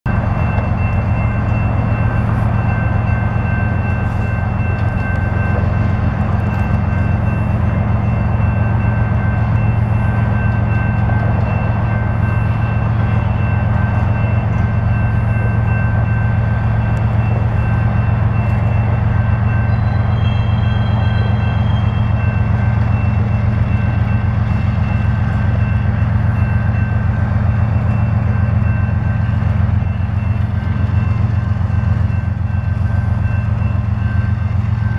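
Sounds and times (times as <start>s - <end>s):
locomotive diesel engine drone: 0.1s - 34.9s.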